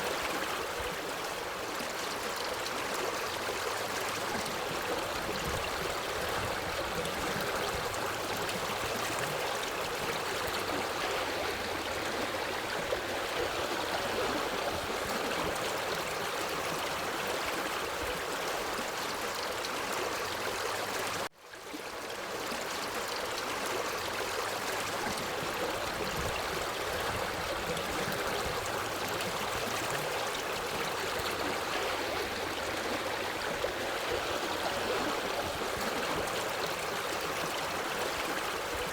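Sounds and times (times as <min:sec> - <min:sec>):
forest stream running: 0:00.0 - 0:38.9.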